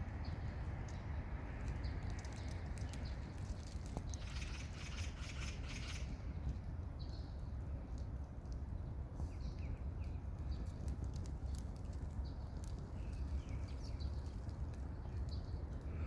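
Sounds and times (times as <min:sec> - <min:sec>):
small songbirds chirping: 0:00.0 - 0:16.0
steady low rumble: 0:00.0 - 0:16.0.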